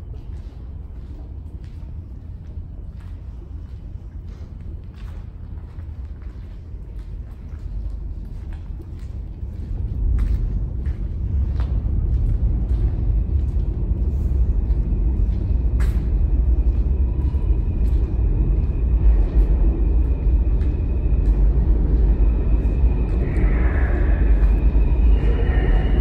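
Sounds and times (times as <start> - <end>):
subway trains rumbling: 0.0 - 26.0.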